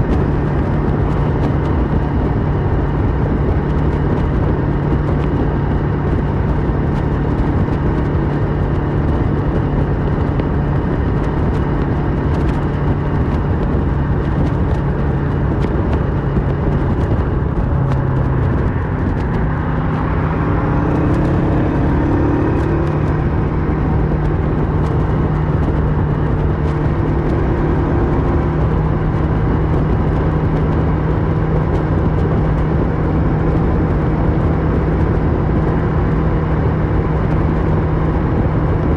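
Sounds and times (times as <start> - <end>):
motorcycle engine while riding: 0.0 - 38.9
wind rush: 0.0 - 38.9.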